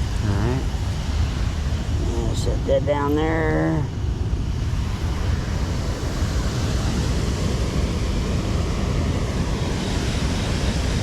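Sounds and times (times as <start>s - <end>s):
steady low rushing noise: 0.0s - 11.0s.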